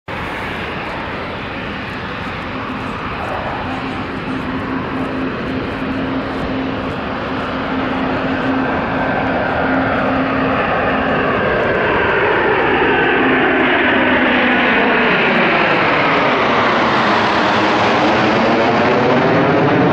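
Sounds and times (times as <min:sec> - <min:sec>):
jet engine noise: 0:00.1 - 0:19.9.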